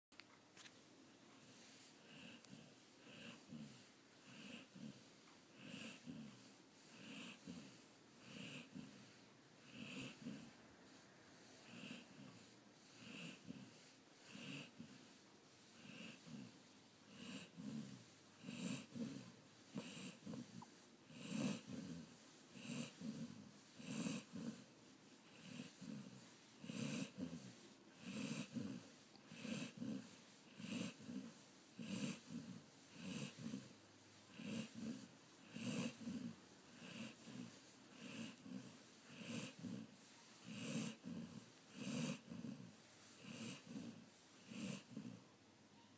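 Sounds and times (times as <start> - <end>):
dog snoring: 1.4 - 45.3.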